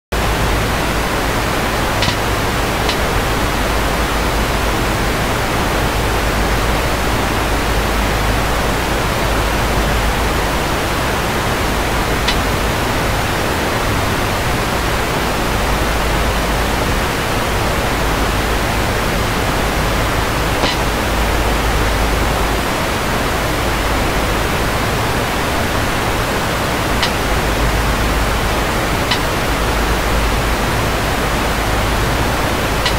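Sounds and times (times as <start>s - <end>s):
electronic static hiss: 0.1s - 32.9s.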